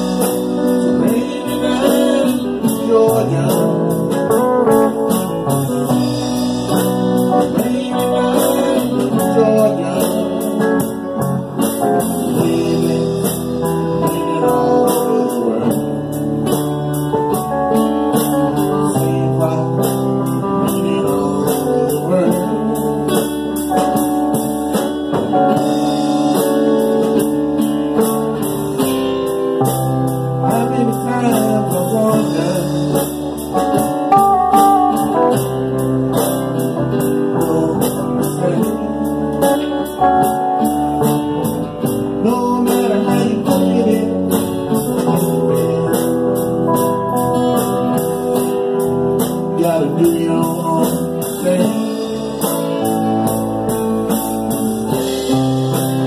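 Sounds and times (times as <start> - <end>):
live band playing slow blues: 0.0 - 56.0.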